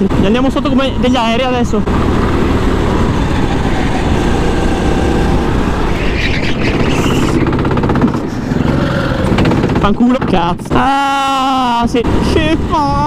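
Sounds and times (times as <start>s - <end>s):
go-kart engine running hard: 0.0s - 13.0s.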